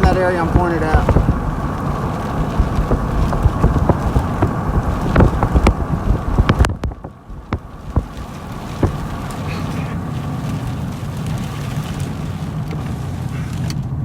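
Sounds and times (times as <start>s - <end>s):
road noise: 0.0s - 14.0s
wind noise: 0.0s - 14.0s.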